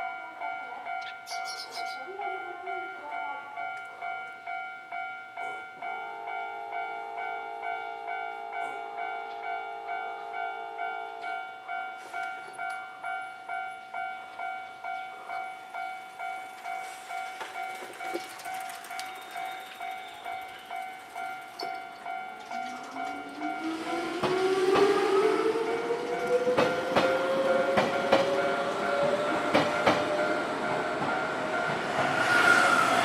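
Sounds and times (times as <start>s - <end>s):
level-crossing alarm dinging: 0.0s - 33.0s
rising whine of approaching train: 0.0s - 33.0s.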